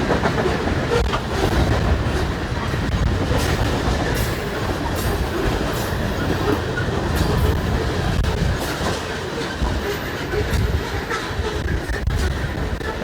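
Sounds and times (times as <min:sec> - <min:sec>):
wheels clicking over rail joints: 0:00.0 - 0:13.0.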